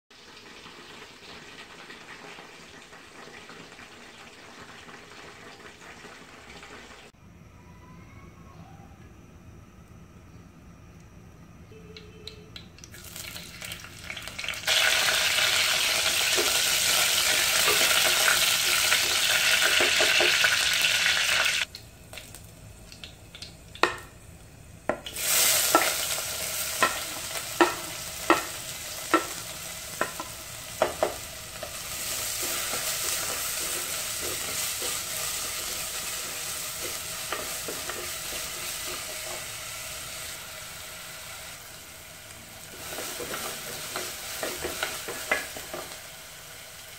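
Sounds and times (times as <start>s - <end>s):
oil sizzling in a pot: 0.1s - 7.2s, 12.8s - 46.9s
onions frying: 0.2s - 7.1s, 12.8s - 46.9s.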